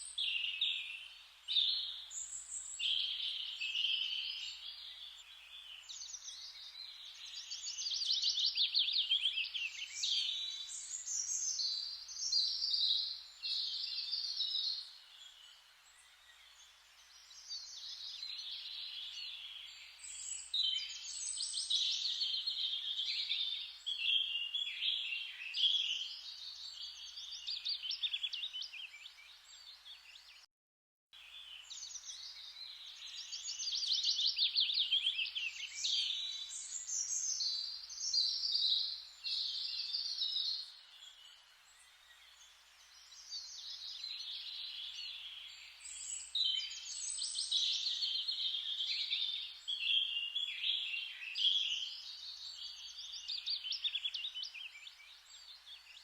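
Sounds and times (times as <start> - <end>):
faint steady hiss: 0.0 - 30.4, 31.2 - 56.0
songbirds singing and chirping: 0.0 - 30.5, 31.2 - 56.0.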